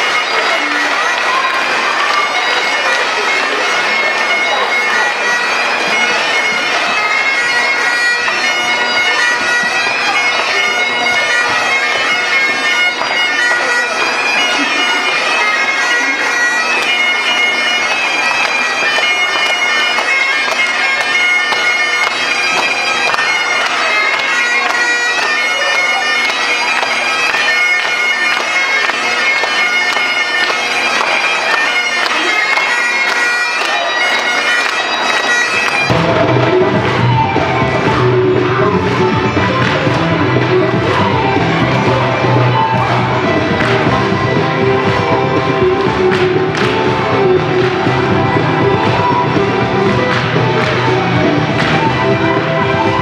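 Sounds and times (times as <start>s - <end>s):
bagpipes playing a dance tune: 0.0s - 53.0s.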